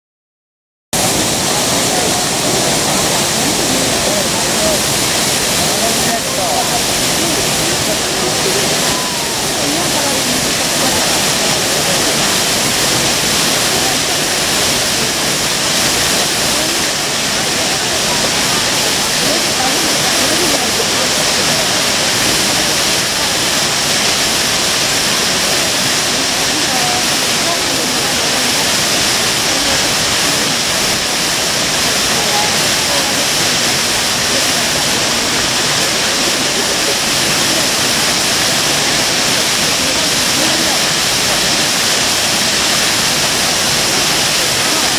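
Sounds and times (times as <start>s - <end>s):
waterfall rushing: 1.0s - 44.9s.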